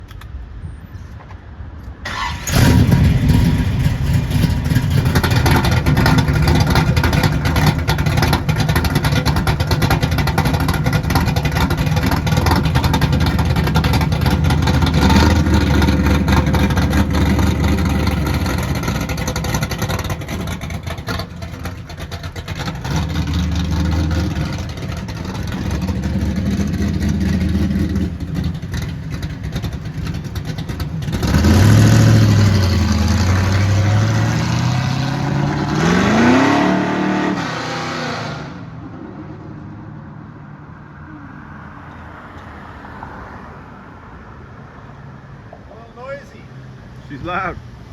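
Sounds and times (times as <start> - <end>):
loud car engine: 2.0 - 45.2.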